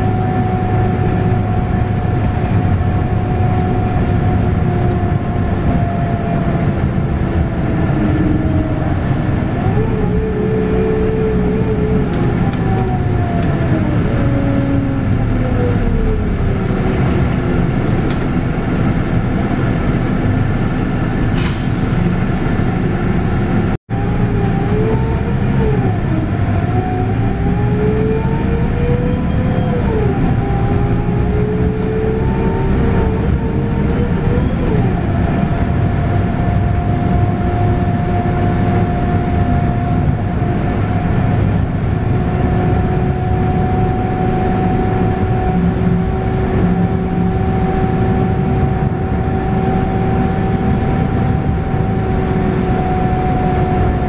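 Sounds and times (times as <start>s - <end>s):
bus drivetrain whine: 0.0s - 54.0s.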